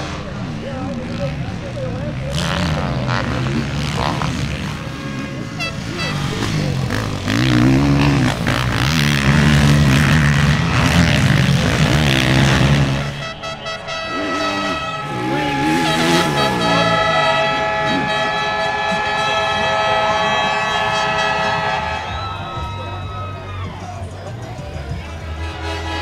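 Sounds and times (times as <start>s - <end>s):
motocross engines revving: 0.0s - 26.0s.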